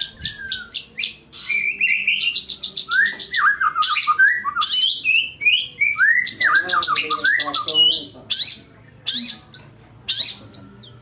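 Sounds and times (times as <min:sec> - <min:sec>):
harsh high bird notes: 0:00.0 - 0:11.0
whistled bird notes: 0:00.0 - 0:11.0.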